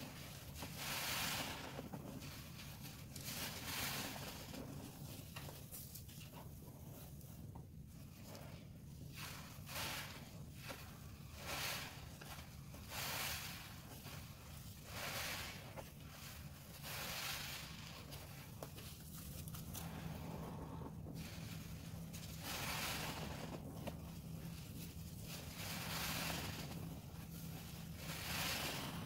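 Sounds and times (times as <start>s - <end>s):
sponge squelching in foam: 0.0s - 29.0s.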